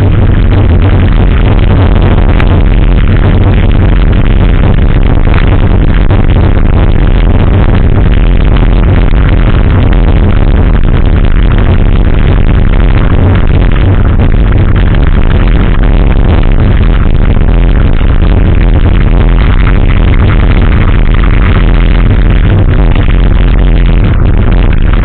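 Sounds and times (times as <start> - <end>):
electronic dance music: 0.0 - 25.0.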